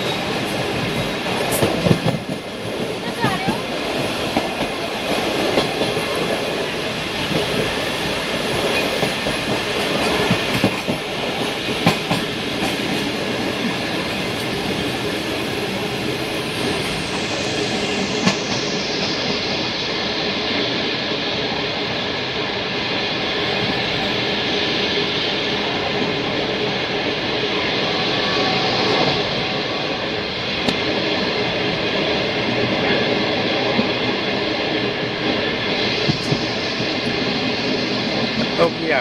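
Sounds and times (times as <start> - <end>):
train wheels rumbling over rails: 0.0 - 39.0.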